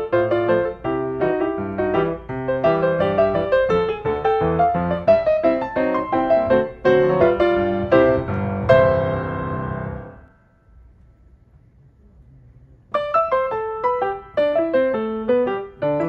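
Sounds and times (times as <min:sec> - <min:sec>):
piano music: 0:00.0 - 0:10.9, 0:13.0 - 0:16.0.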